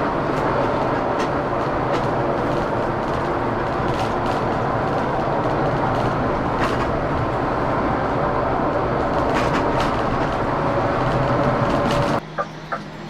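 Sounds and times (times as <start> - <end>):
coach road and engine noise: 0.0 - 13.0.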